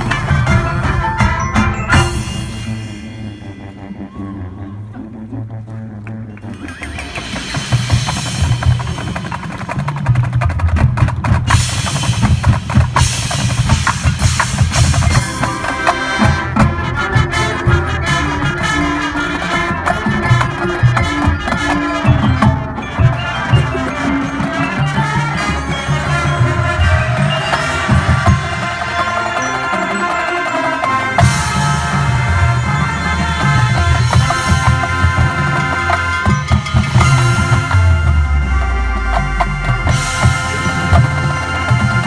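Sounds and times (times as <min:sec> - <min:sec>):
bass drums: 0:00.0 - 0:29.4, 0:31.1 - 0:42.0
marching band chords: 0:00.0 - 0:42.0
snare drum rolls: 0:06.7 - 0:42.0.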